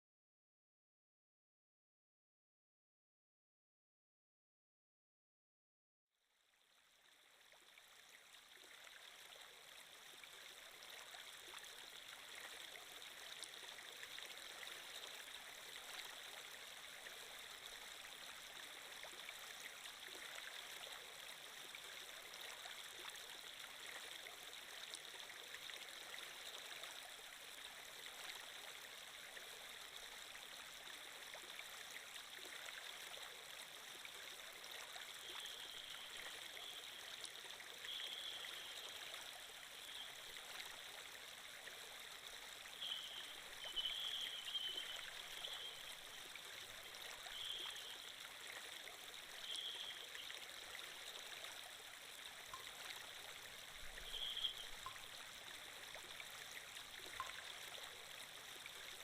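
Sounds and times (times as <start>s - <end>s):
stream flowing: 6.4s - 59.0s.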